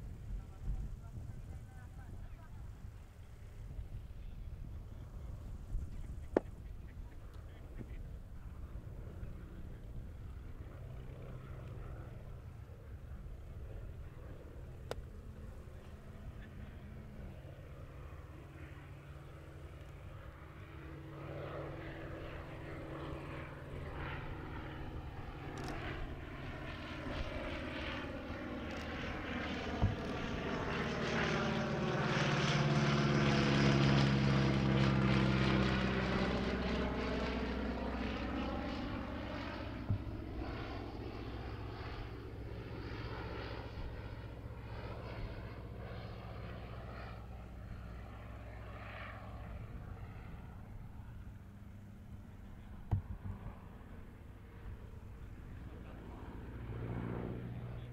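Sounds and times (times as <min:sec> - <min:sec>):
biplane engine and propeller: 0:00.0 - 0:57.9.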